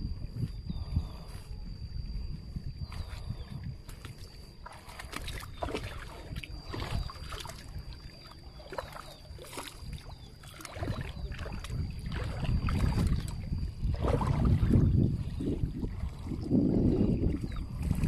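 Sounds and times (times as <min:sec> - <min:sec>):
water splashing and sloshing: 0:02.8 - 0:18.0.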